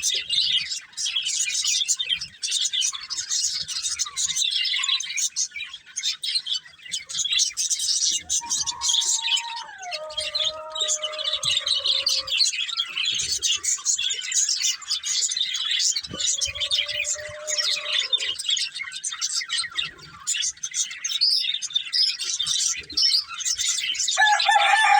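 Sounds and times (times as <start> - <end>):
budgerigars chattering: 0.0 - 24.9.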